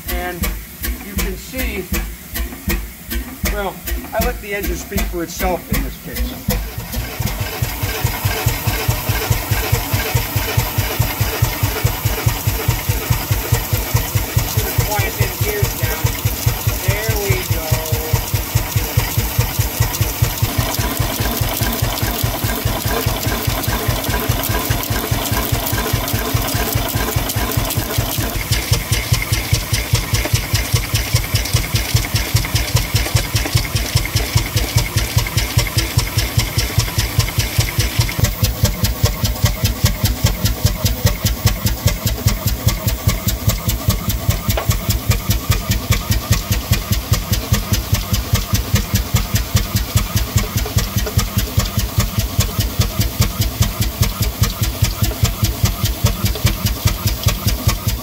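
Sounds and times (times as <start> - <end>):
steam hissing: 0.0 - 52.0
steam engine running: 0.0 - 58.0.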